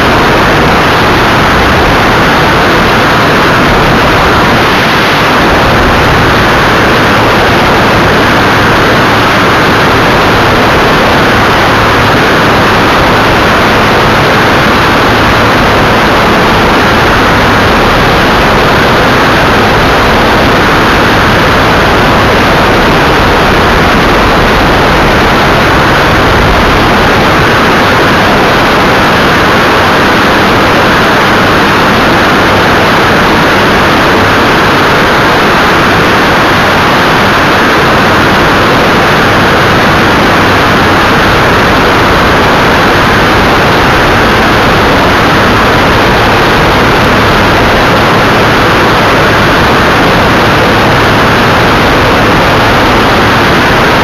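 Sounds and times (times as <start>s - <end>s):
aircraft engine and propeller drone: 0.0s - 54.0s
rushing airflow noise: 0.0s - 54.0s.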